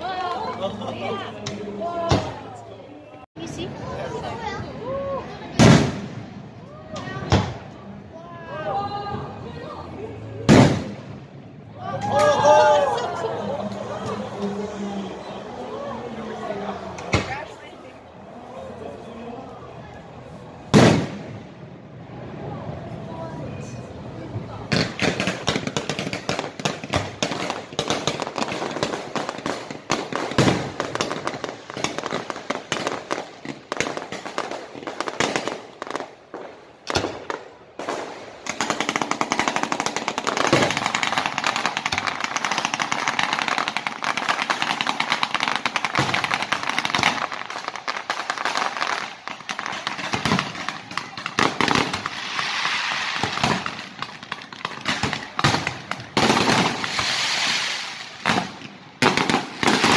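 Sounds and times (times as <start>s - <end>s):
fireworks bangs and crackles: 0.0s - 2.7s, 3.4s - 8.0s, 9.0s - 17.9s, 20.5s - 59.9s.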